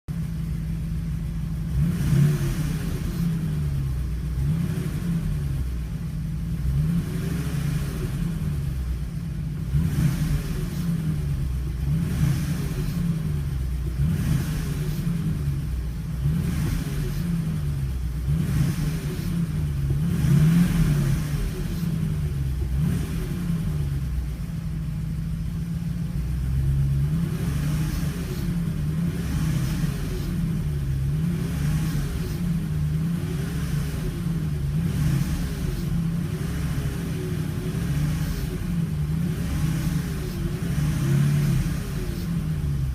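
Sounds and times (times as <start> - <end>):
car engine revving: 0.1 - 42.9.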